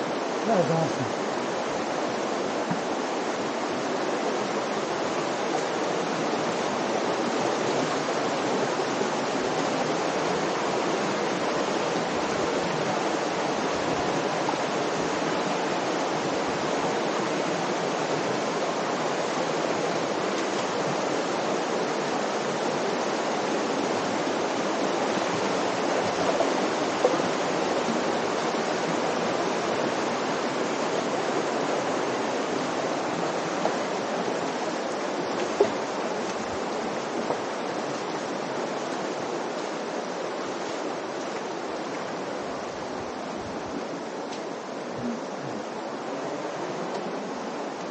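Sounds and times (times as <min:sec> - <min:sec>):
water rushing over rocks: 0:00.0 - 0:47.9.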